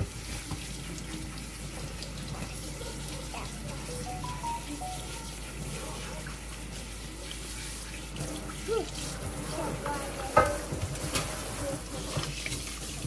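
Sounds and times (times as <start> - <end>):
water spraying from faucet: 0.0 - 13.0.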